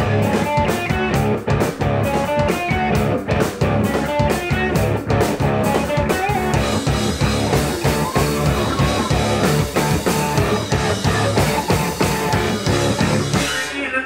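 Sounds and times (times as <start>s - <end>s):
bass guitar: 0.0s - 13.7s
drum kit beat: 0.0s - 13.7s
electric guitars: 0.0s - 14.0s.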